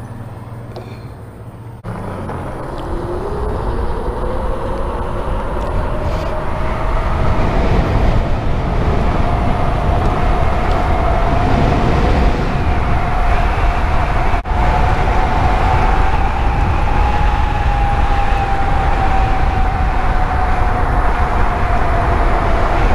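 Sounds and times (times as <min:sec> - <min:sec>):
electric bike motor whining: 0:01.9 - 0:22.9
wind rush on microphone: 0:01.9 - 0:22.9.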